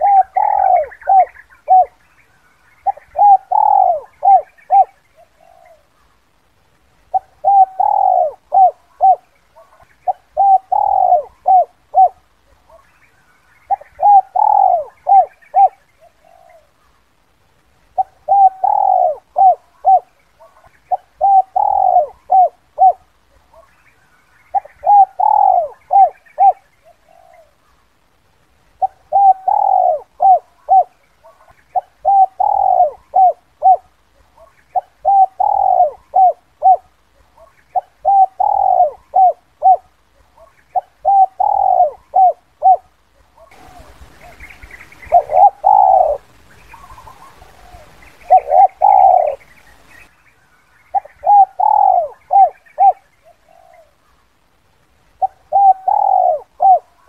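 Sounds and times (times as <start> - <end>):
dove cooing: 0.0 - 2.1, 2.7 - 6.0, 7.1 - 16.9, 17.9 - 27.8, 28.8 - 50.0, 50.9 - 54.2, 55.2 - 57.0.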